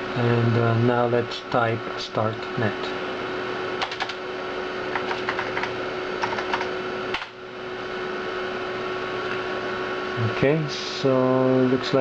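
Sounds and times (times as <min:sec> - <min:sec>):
computer hard drive hum: 0:00.0 - 0:12.0.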